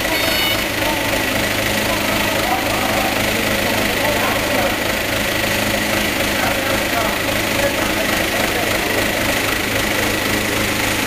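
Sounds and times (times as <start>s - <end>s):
forklift engine idling: 0.0s - 11.0s
murmur of voices: 0.0s - 11.0s.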